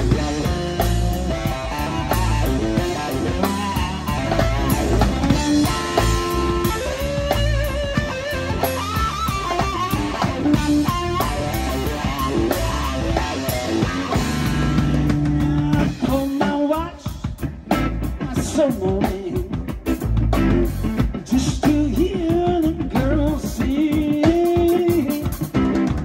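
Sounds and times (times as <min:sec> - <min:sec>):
bass guitar: 0:00.0 - 0:26.0
drum kit: 0:00.0 - 0:26.0
electric guitar lead lines: 0:00.0 - 0:26.0.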